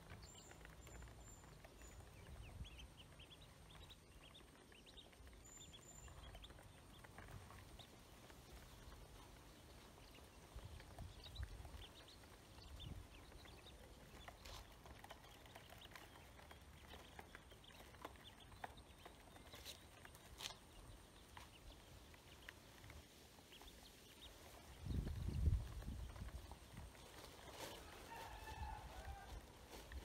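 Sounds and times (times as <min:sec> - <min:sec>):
ducklings pecking in plastic basin: 0:00.0 - 0:30.0
soft duckling peeps: 0:00.0 - 0:30.0.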